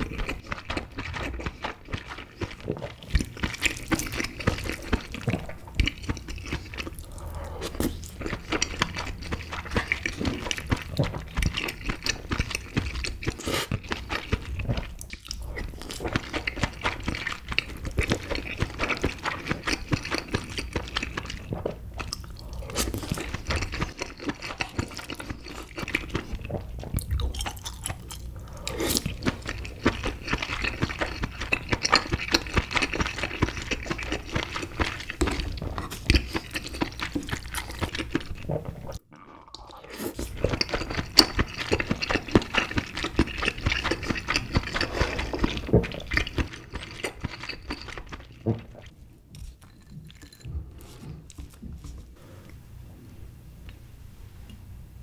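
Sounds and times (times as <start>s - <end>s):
close chewing and wet mouth sounds: 0.0s - 52.6s.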